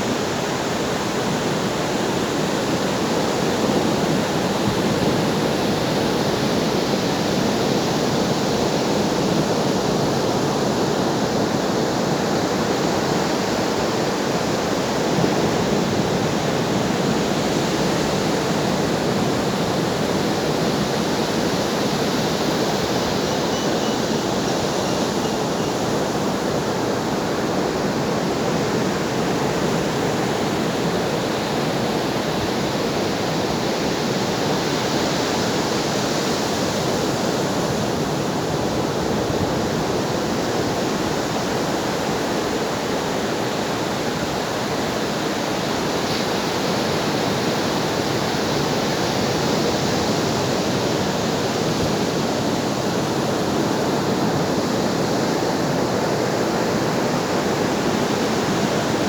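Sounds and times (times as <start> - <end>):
waves washing onto shore: 0.0 - 59.0.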